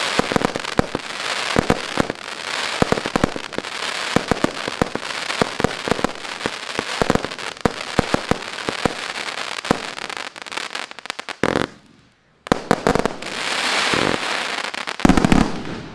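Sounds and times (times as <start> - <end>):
crackling hiss: 0.0 - 15.9
fireworks bangs: 0.0 - 15.9.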